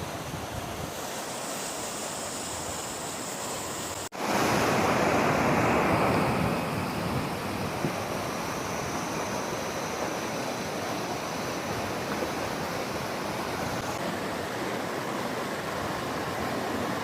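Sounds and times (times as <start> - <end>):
waterfall rushing: 0.9 - 17.0.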